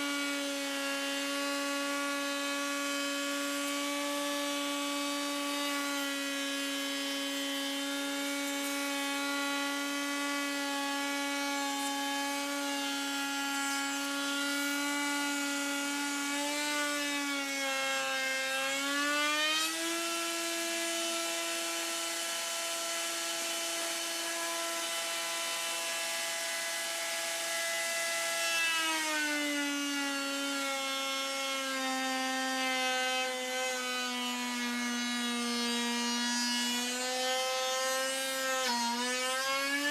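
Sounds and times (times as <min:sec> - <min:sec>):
router whining: 0:00.0 - 0:39.9.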